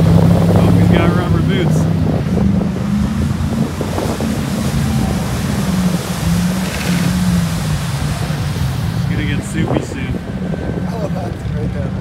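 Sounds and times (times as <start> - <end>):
truck engines running: 0.0 - 12.0
wind buffeting microphone: 0.0 - 12.0.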